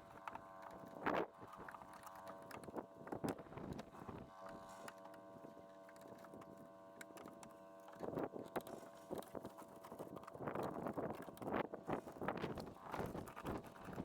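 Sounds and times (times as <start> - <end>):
faint machine hum: 0.0 - 14.0.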